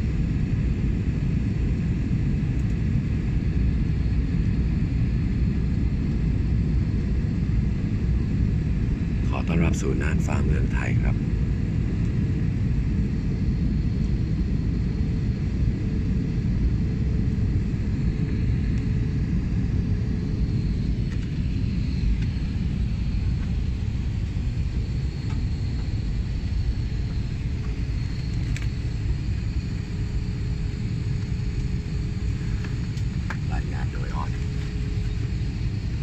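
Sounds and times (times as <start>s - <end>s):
faint steady hum: 0.0s - 36.0s
jet engine cabin rumble: 0.0s - 36.0s.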